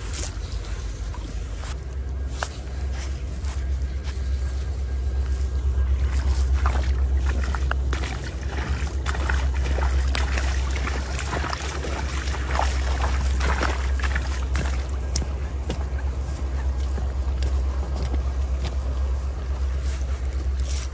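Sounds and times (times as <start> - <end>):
footsteps crunching on wet gravel: 0.0 - 20.9.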